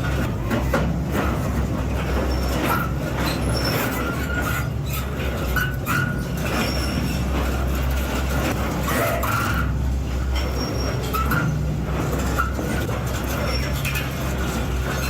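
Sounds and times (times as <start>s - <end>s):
industrial shredder running: 0.0s - 15.0s.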